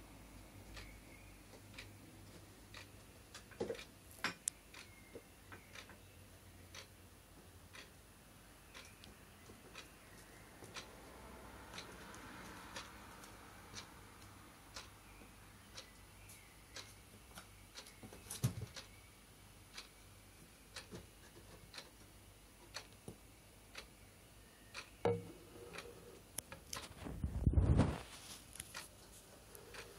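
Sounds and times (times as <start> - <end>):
clock ticking: 0.6 - 18.0, 18.7 - 19.0, 19.7 - 24.0, 24.7 - 27.0, 29.5 - 29.9.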